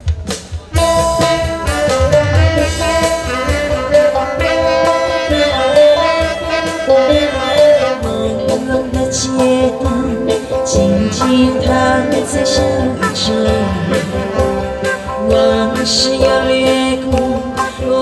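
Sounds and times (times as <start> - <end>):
band playing instrumental: 0.0 - 18.0.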